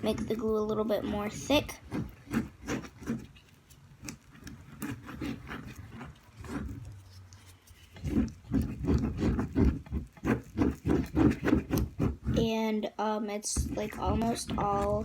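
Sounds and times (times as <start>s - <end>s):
slime squishing and squelching: 0.0s - 12.6s, 13.5s - 15.0s.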